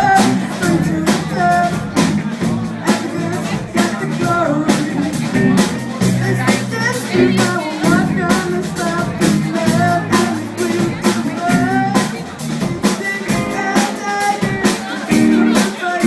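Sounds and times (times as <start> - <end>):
drum kit beat: 0.0 - 16.0
electric guitar: 0.0 - 16.0
person singing: 0.0 - 16.0.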